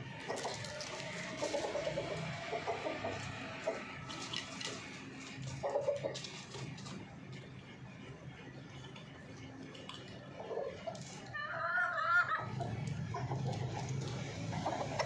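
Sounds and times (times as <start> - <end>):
chickens clucking: 0.0 - 7.7, 8.8 - 15.0.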